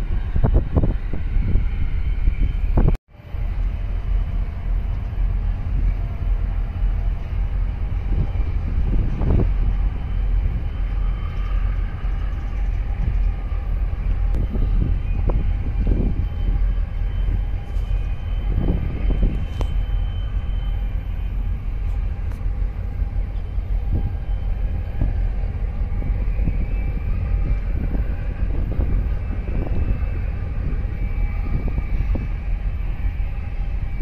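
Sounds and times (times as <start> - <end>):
boat engine rumble: 0.0 - 34.0
wind gusting on microphone: 0.0 - 34.0.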